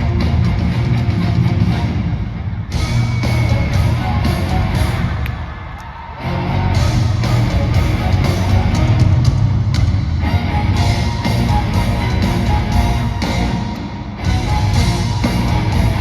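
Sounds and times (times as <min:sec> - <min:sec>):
metal band with orchestra: 0:00.0 - 0:16.0.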